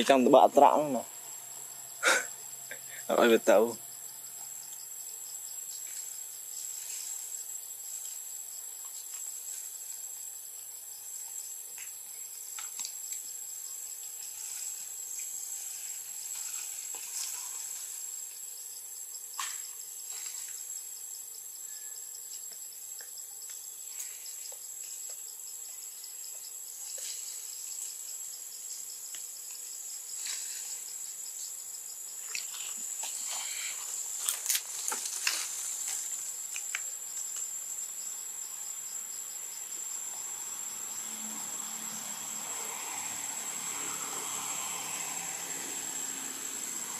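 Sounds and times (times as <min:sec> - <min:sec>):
high-pitched insect drone: 0:00.0 - 0:46.9.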